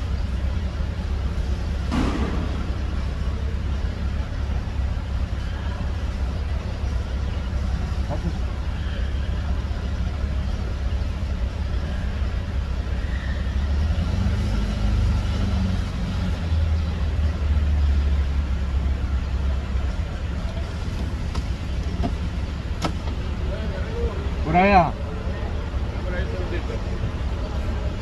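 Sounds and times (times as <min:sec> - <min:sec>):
van engine running: 0:00.0 - 0:28.0.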